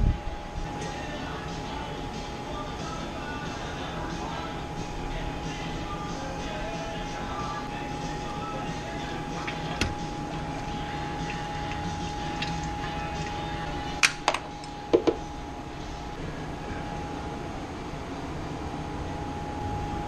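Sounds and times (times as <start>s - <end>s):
steady hum with high tone: 0.0s - 20.0s.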